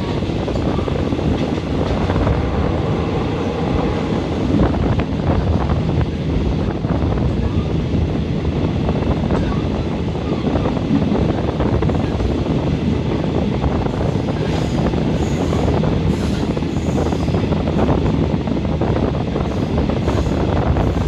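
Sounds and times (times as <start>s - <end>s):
train wheels rumbling on rails: 0.0s - 21.0s
wind noise: 0.0s - 21.0s.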